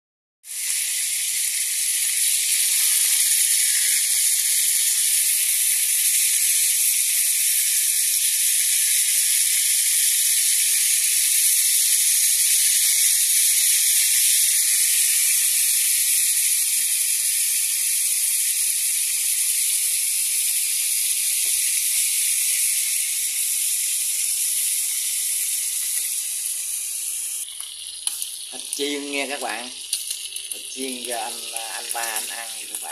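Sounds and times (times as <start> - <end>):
meat sizzling in hot oil: 0.4 - 32.9.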